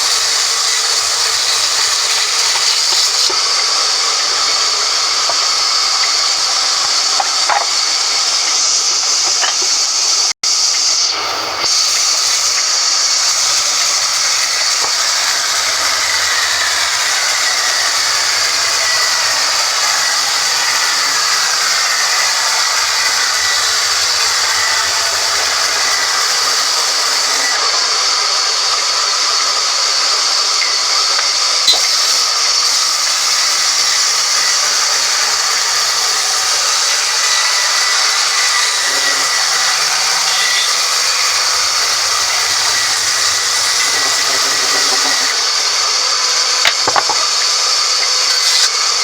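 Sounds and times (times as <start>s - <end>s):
woodworking machine hissing: 0.0s - 49.0s.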